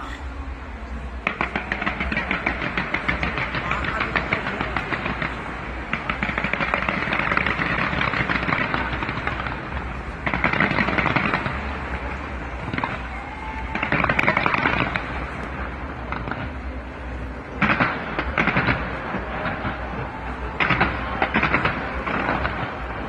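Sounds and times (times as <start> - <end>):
fireworks crackling and popping: 1.1 - 23.0.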